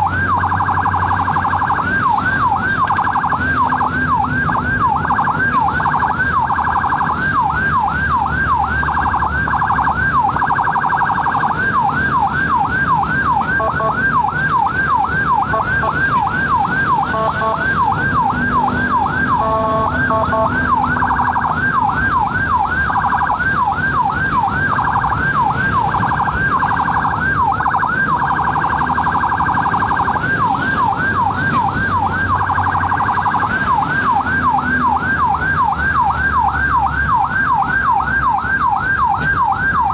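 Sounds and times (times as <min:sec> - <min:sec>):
ambulance siren: 0:00.0 - 0:39.9
vehicle rumble: 0:00.0 - 0:39.9.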